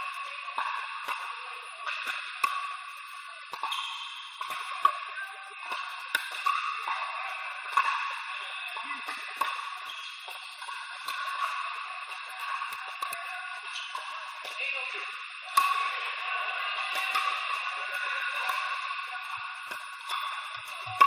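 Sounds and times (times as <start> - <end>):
background chatter of voices: 0.0 - 21.0
paddles hitting plastic balls: 0.0 - 21.0.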